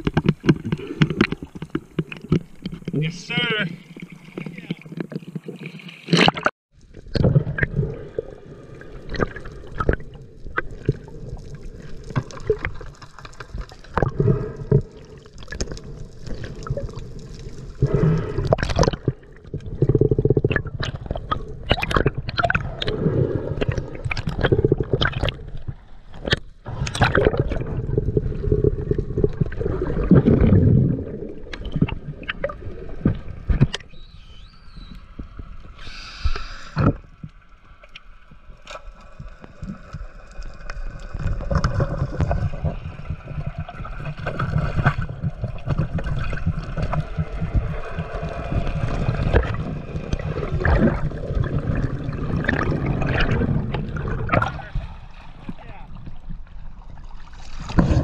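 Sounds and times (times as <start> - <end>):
muffled underwater sloshing: 0.0 - 58.0.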